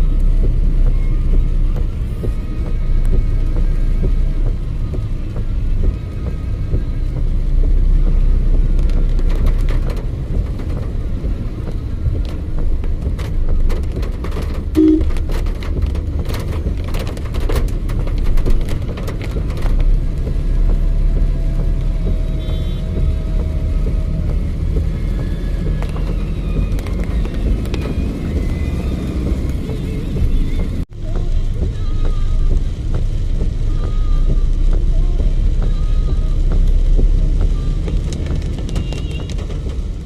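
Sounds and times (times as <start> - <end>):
traffic on wet road: 0.0 - 40.0.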